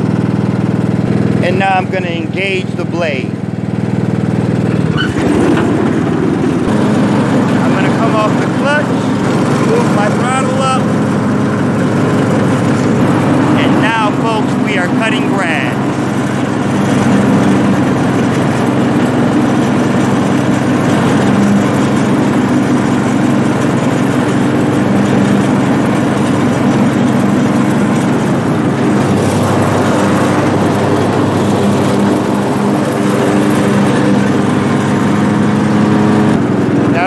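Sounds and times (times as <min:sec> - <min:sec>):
lawn tractor engine drone: 0:00.0 - 0:37.0
mower deck whirring: 0:00.0 - 0:37.0.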